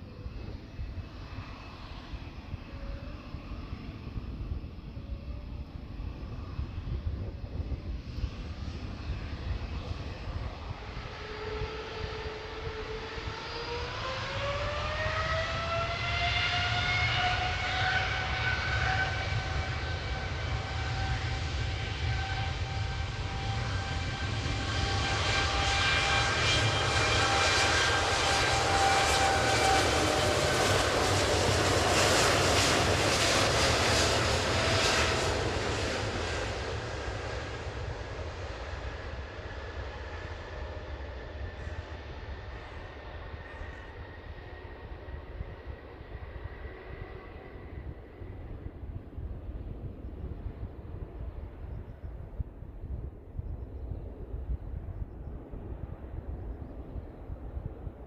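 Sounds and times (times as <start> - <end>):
jet engine whine: 0.0 - 58.0
jet roar: 0.0 - 58.0.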